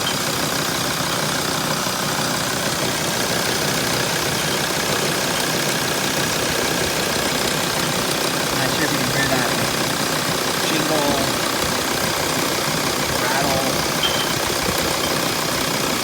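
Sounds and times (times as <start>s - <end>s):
diesel engine idling: 0.0s - 16.0s
rattle noise: 2.8s - 16.0s.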